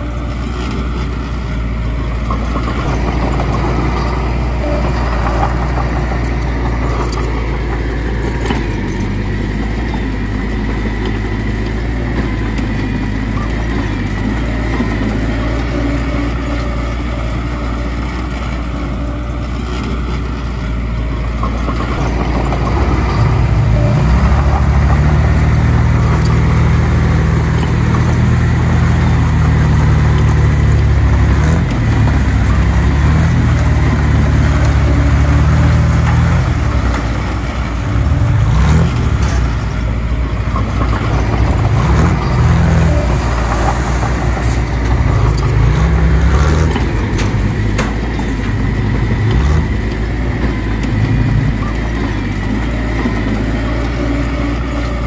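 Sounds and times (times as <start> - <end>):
heavy machinery diesel engine revving: 0.0 - 55.0.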